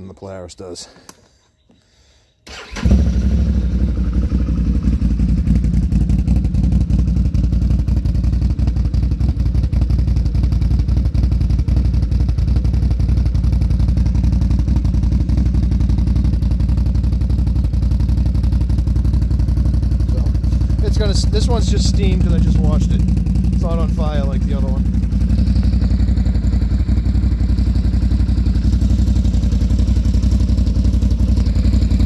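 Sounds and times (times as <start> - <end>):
engine idling: 2.5 - 32.0.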